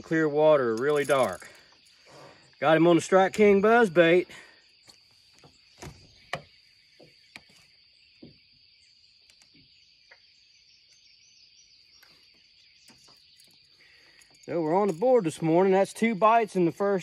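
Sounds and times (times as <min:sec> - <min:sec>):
insects chirping on one high pitch: 0:00.0 - 0:17.0.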